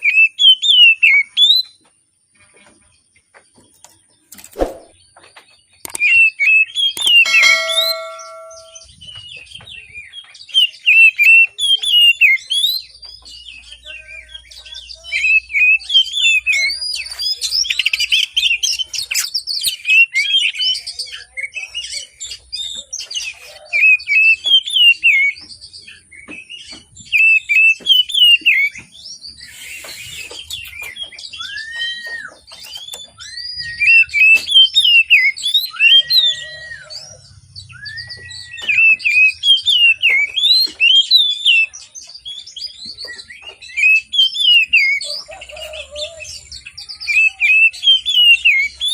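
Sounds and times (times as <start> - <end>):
bird singing chirps and whistles: 0.0 - 1.8, 5.6 - 48.9.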